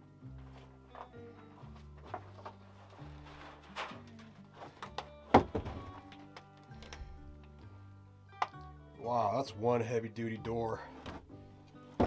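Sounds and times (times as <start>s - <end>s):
background music with low bass: 0.0s - 12.0s.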